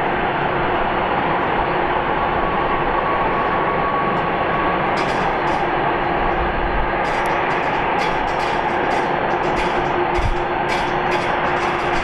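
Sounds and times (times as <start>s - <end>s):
faint engine whine: 0.0s - 12.0s
jet engines rumbling: 0.0s - 12.0s.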